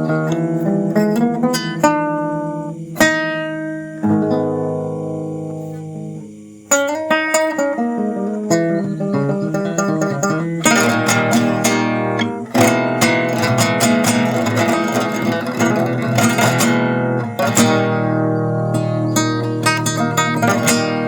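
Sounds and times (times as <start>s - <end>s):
acoustic guitar strummed chords: 0.0s - 21.0s.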